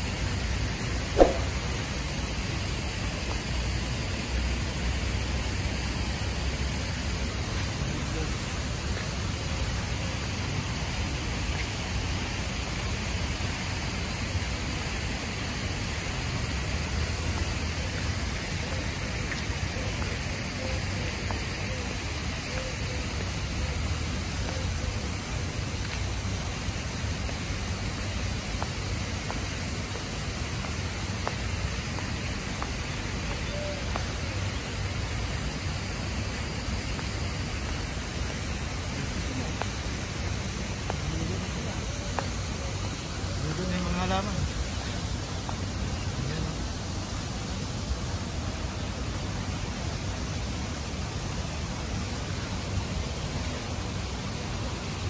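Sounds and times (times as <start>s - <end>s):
sprinklers hissing: 0.0s - 55.0s.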